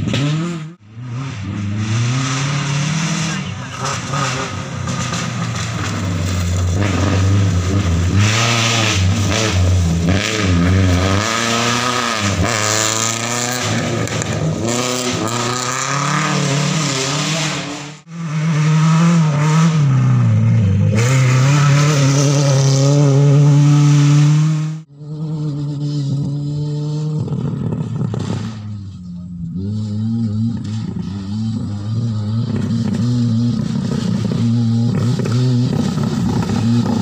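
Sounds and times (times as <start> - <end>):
rally car engine revving: 0.0 - 37.0
rally car sliding on dirt: 0.0 - 37.0.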